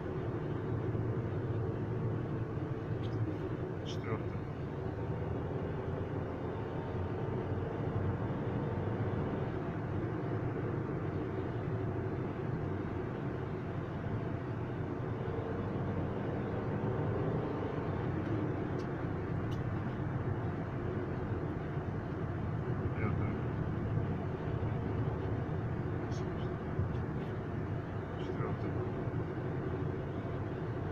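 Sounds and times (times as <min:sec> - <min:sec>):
vehicle engine running steadily: 0:00.0 - 0:30.9.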